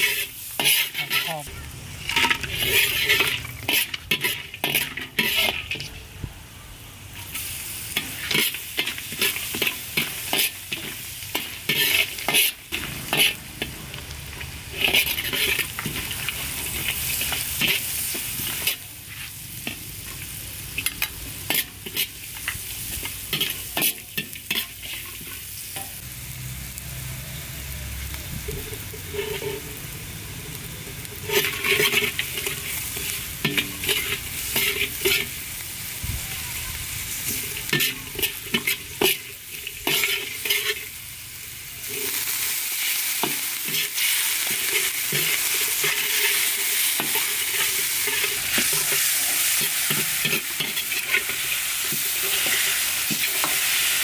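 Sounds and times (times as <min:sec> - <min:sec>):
metal ladle scraping a wok: 0:00.0 - 0:06.2, 0:07.3 - 0:26.0, 0:28.4 - 0:36.0, 0:36.9 - 0:54.0
spices sizzling in oil: 0:00.0 - 0:54.0.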